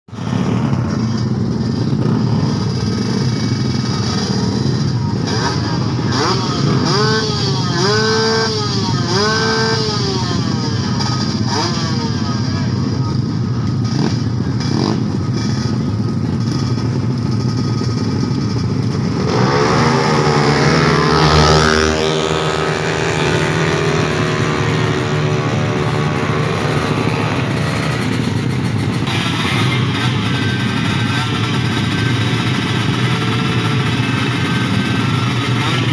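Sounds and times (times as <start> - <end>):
motorcycle engines revving: 0.1 - 35.9.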